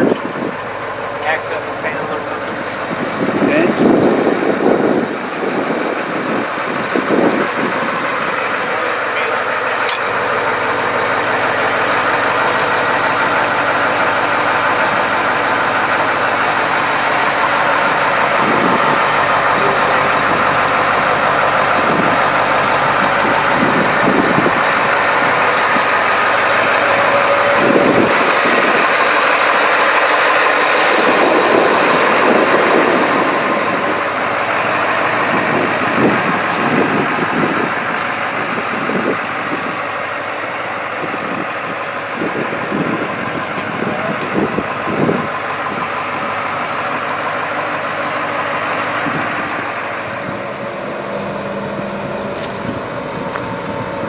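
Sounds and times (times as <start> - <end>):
diesel truck engine running: 0.0 - 54.0
low bumps: 0.0 - 54.0.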